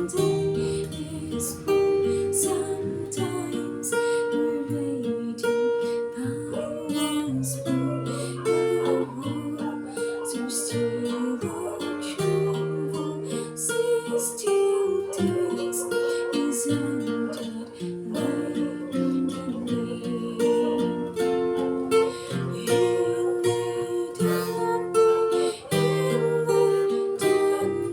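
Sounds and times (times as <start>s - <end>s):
acoustic guitar playing: 0.0s - 27.9s.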